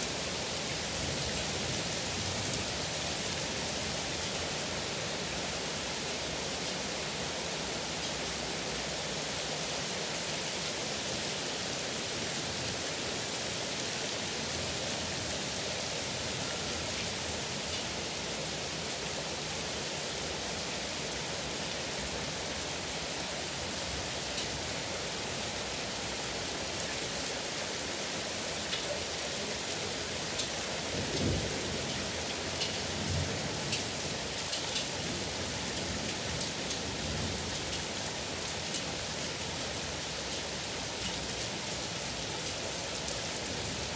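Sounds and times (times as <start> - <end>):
heavy rain in wind: 0.0 - 43.9.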